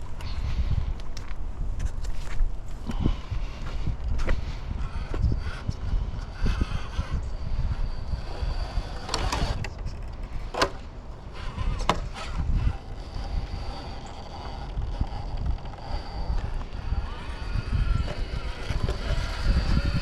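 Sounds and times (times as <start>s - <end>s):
wind rumble on microphone: 0.0s - 20.0s
electric motor whine: 2.7s - 20.0s.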